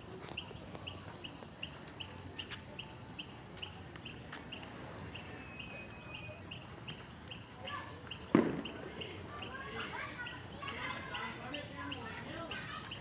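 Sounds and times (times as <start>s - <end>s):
bonfire crackling: 0.0s - 13.0s
insect chirping: 0.3s - 13.0s.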